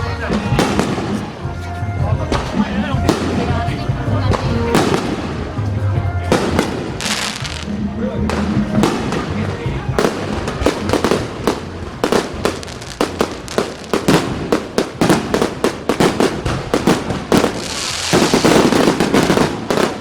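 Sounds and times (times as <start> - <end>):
crackling hiss of fireworks: 0.0 - 20.0
fireworks bangs: 0.0 - 20.0.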